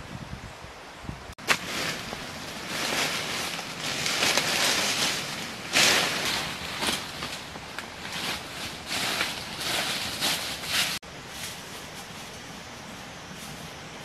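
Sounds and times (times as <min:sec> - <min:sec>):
dry leaves rustling: 0:01.4 - 0:14.0.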